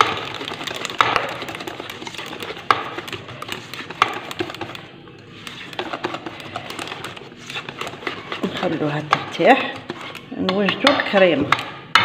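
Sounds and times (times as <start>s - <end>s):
whisk clicking and scraping bowl: 0.0s - 12.0s.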